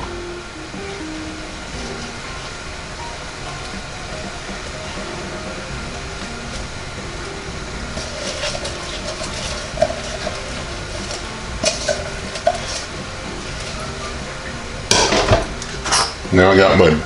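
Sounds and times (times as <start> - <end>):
toaster oven fan humming: 0.0 - 17.0.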